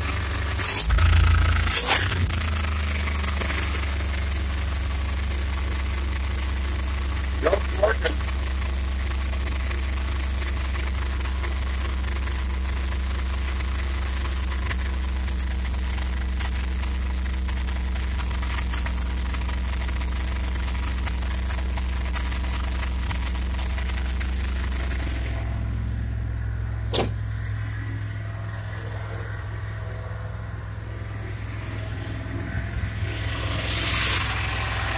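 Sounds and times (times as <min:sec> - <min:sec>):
van engine idling: 0:00.0 - 0:34.9.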